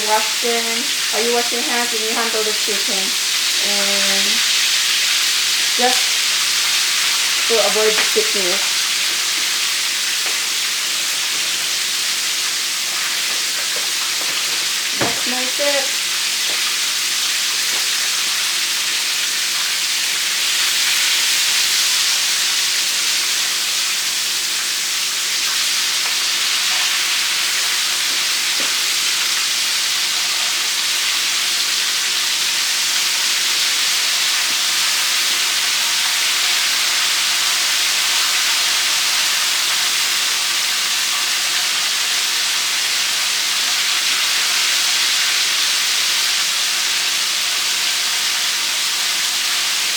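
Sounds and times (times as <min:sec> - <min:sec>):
chicken sizzling in hot oil: 0:00.0 - 0:49.9.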